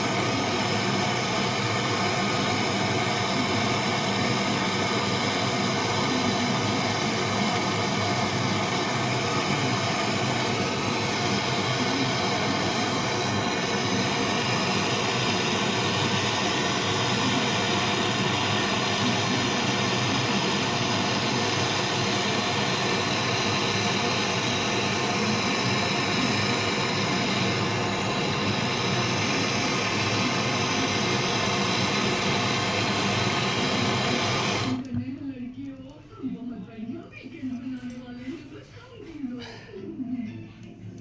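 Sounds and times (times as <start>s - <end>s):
machine humming with hiss: 0.0s - 34.8s.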